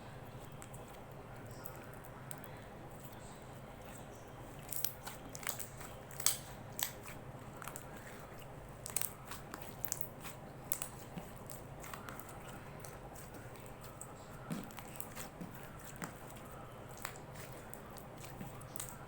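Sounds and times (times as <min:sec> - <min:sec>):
slime squished by hand: 0:00.2 - 0:19.0.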